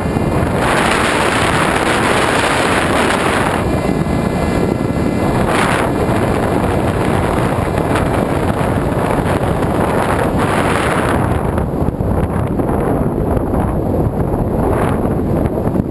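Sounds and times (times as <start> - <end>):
wind noise on microphone: 0.0 - 15.9.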